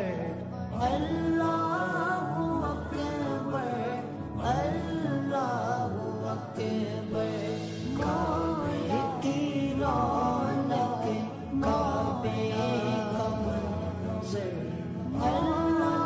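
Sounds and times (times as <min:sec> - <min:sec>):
person singing devotional song: 0:00.0 - 0:16.0.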